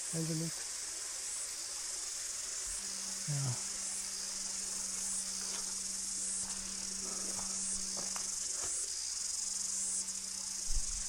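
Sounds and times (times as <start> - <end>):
faint low hum: 0.0 - 11.0
high-pitched insect chorus: 0.0 - 11.0.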